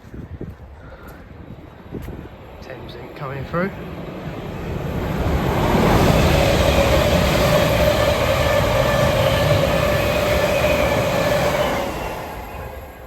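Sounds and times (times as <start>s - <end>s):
train whine: 1.3s - 13.0s
electric train passing: 1.4s - 13.0s.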